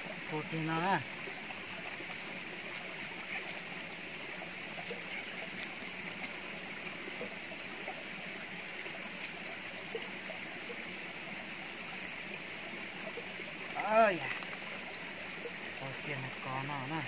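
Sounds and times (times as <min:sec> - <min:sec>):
stream running over rock: 0:00.0 - 0:17.0.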